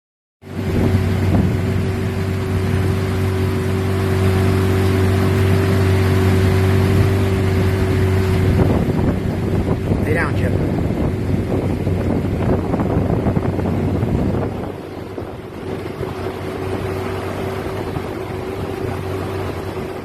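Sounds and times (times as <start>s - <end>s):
engine humming: 0.4s - 20.0s.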